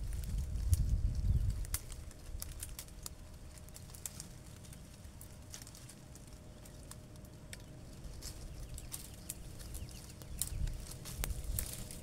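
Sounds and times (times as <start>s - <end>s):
bush leaves and twigs rustling: 0.0s - 12.0s.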